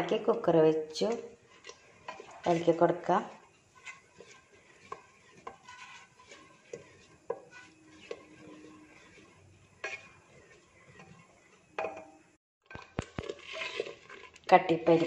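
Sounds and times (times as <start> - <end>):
ladle scraping a pot: 1.0 - 15.0.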